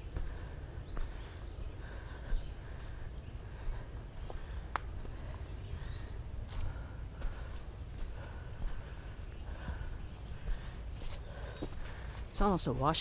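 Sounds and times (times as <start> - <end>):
faint birds calling: 0.0 - 13.0
footsteps on dirt trail: 0.0 - 13.0
steady low rumble: 0.0 - 13.0.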